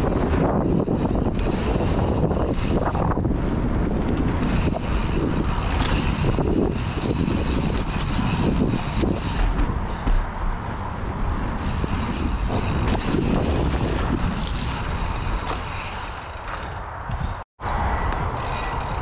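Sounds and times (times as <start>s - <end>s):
bike knocking and rattling: 0.0s - 17.4s, 18.2s - 19.0s
bike tyres on dirt and plywood: 0.0s - 17.4s
wind rushing over microphone: 0.0s - 19.0s.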